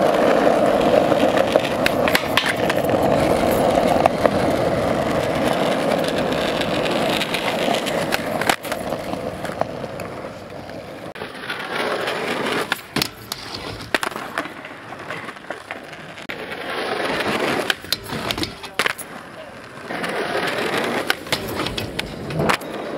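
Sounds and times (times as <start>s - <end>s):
skateboard clacks: 0.0s - 22.9s
skateboard wheels on rough asphalt: 0.0s - 22.9s.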